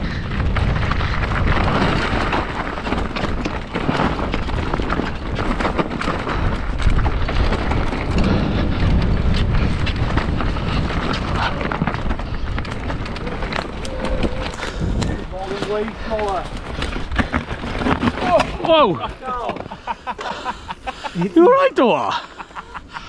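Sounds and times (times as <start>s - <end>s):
bike knocks and rattles: 0.0s - 21.1s
wind buffeting microphone: 0.0s - 21.4s
tyres rumbling over dirt: 0.0s - 22.6s.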